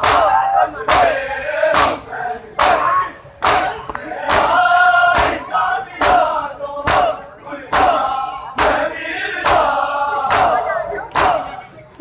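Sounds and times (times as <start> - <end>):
crowd of men chanting: 0.0 - 11.6.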